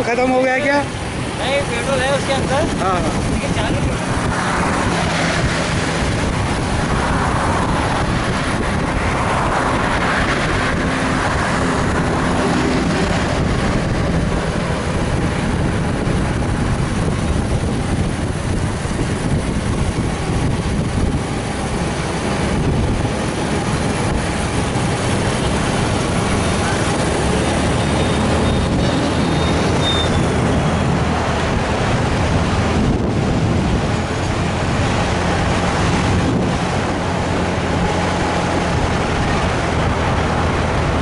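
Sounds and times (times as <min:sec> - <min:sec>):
motorcycle engines running: 0:00.0 - 0:41.0
road and wind noise: 0:00.0 - 0:41.0.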